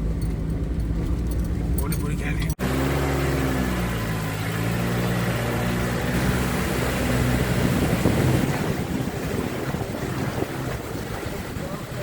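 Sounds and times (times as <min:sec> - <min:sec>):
road and wind noise: 0:00.0 - 0:12.0
vehicle engine humming: 0:00.0 - 0:12.0.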